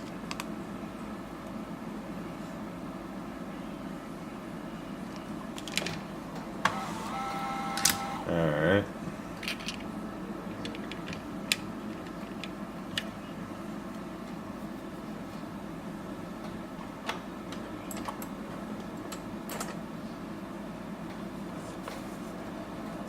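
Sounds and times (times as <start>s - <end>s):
fan-like equipment whir: 0.0s - 23.0s.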